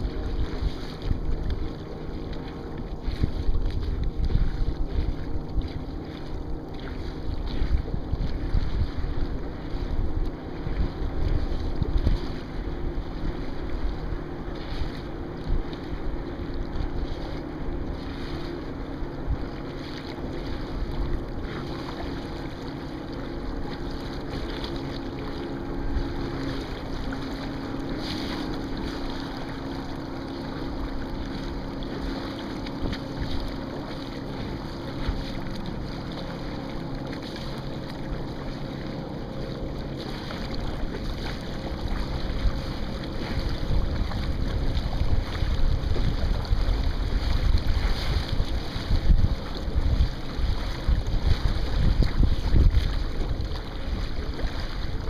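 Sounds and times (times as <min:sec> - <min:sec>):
water rushing along hull: 0:00.0 - 0:55.0
wind buffeting microphone: 0:00.0 - 0:55.0.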